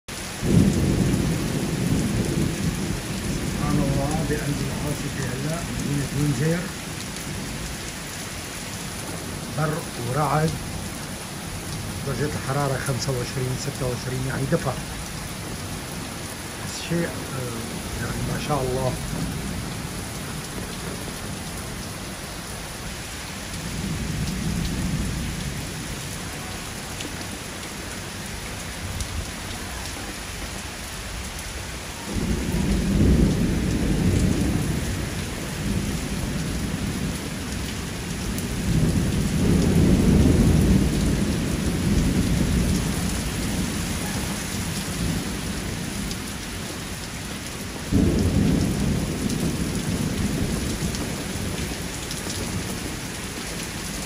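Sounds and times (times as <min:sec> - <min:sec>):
heavy rain pouring: 0:00.1 - 0:54.0
thunder rumbling: 0:00.4 - 0:08.2, 0:08.8 - 0:29.9, 0:32.0 - 0:54.0.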